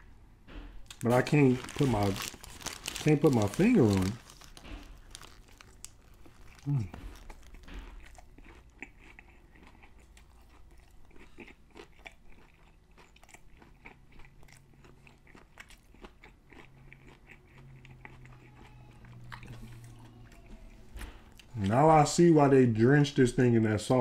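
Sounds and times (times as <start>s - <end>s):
chewing crispy fried chicken: 0.9s - 21.8s.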